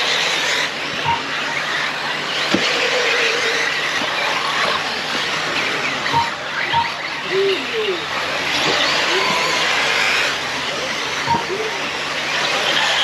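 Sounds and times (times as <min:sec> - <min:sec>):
electric rc car motors whining: 0:00.0 - 0:13.0.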